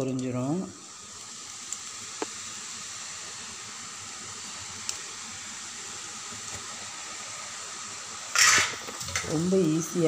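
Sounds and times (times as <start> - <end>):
dough deep-frying in oil: 0.0 - 10.0.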